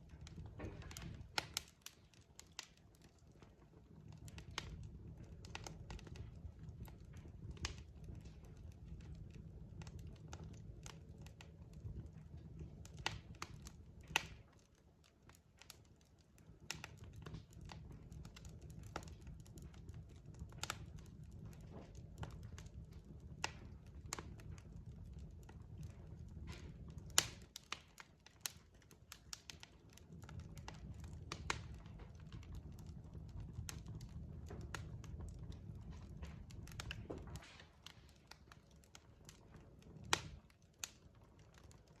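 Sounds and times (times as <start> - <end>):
log fire crackling: 0.0 - 42.0.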